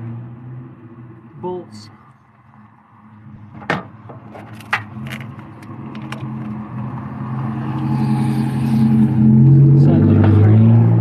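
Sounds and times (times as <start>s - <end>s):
vehicle hum: 0.0s - 11.0s.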